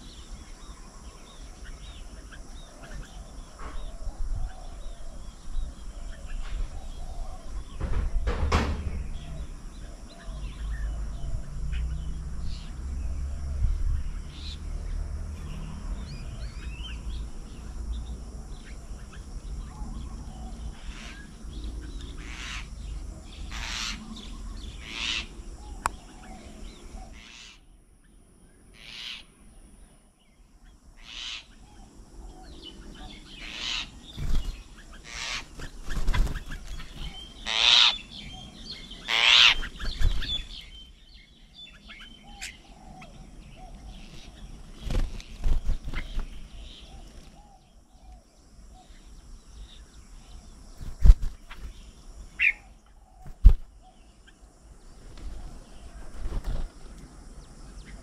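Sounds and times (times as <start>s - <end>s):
birds calling harshly: 0.0s - 29.5s, 30.6s - 58.0s.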